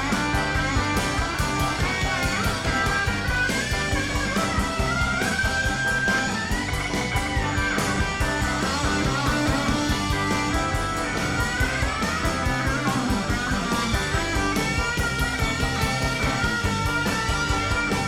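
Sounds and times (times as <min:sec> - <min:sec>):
bass guitar: 0:00.0 - 0:18.0
drums: 0:00.0 - 0:18.0
lead guitar with bending notes: 0:00.0 - 0:18.0.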